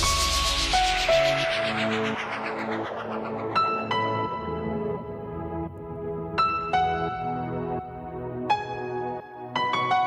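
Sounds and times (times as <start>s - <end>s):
soft new-age background music: 0.0s - 10.0s.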